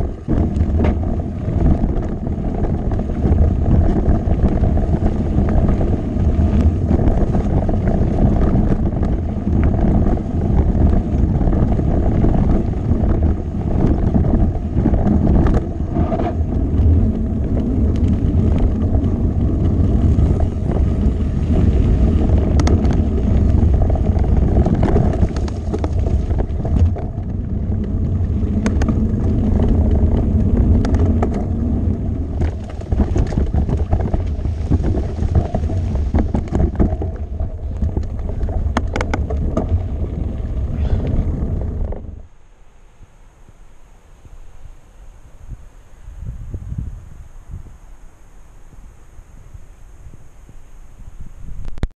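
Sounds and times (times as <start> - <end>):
bike clicks and rattles: 0.0 - 42.2
bike tyres rolling on gravel: 0.0 - 51.9
wind on microphone: 0.0 - 51.9.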